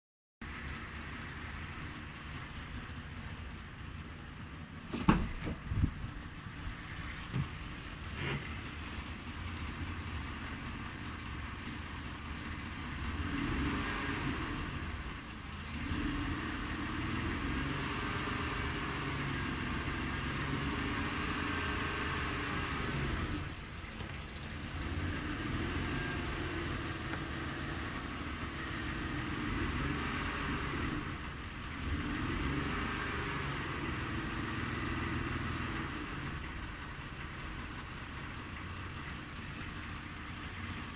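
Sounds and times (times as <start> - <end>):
car engine idling with knock: 0.4 - 40.9.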